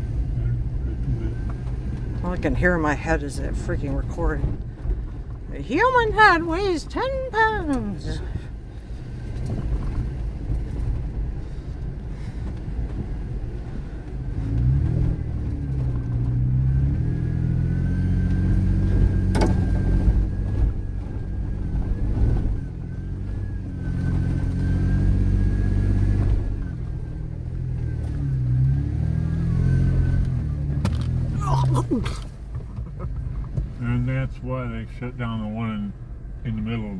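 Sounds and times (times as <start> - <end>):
vehicle engine on dirt trail: 0.0 - 36.9.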